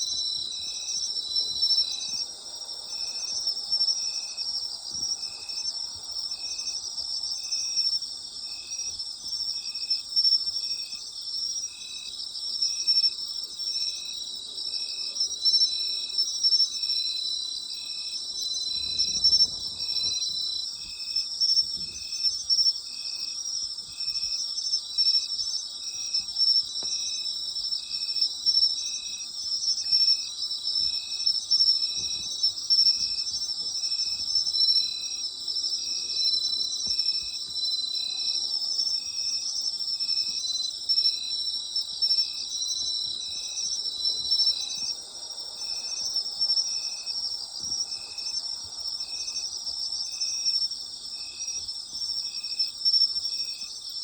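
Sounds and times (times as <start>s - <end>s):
insect chirping: 0.0s - 54.0s
insects trilling: 0.0s - 54.0s.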